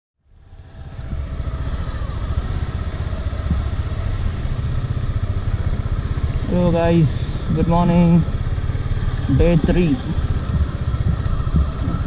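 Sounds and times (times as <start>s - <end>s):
motorcycle engine rumbling: 0.2s - 12.0s.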